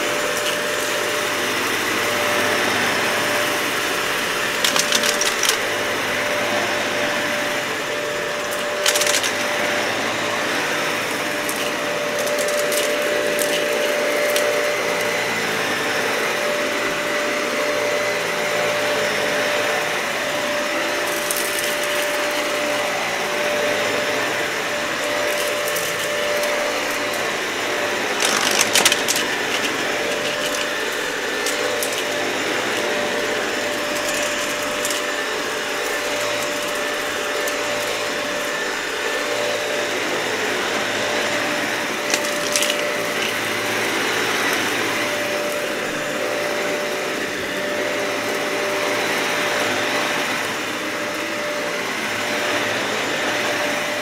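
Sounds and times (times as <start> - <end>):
vacuum cleaner whining on carpet: 0.0 - 54.0.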